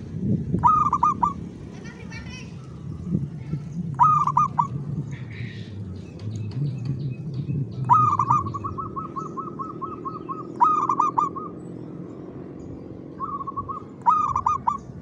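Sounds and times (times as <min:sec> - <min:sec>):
dove singing rolling coos: 0:00.0 - 0:15.0.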